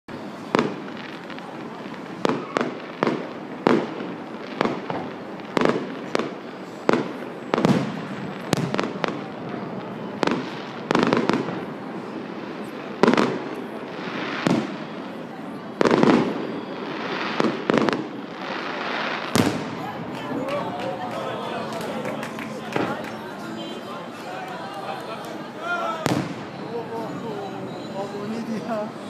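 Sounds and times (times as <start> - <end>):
fireworks bangs: 0.2 - 29.0.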